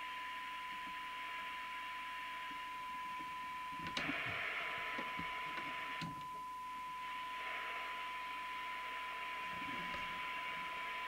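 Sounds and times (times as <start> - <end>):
radio receiver hiss: 0.0 - 11.0
steady test tone from radio speaker: 0.0 - 11.0.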